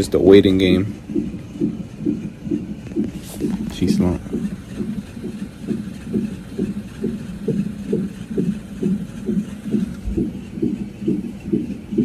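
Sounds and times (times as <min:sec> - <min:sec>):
fetal heartbeat whooshing: 0:00.0 - 0:12.0.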